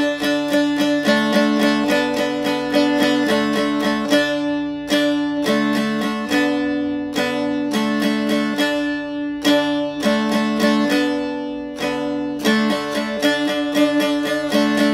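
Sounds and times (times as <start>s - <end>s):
plucked string instrumental music: 0.0s - 14.9s.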